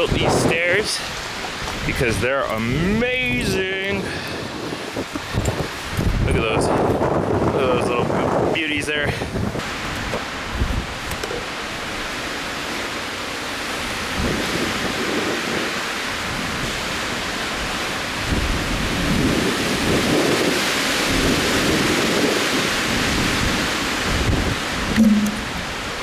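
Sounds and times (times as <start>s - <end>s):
strong wind on microphone: 0.0s - 12.8s, 13.6s - 26.0s.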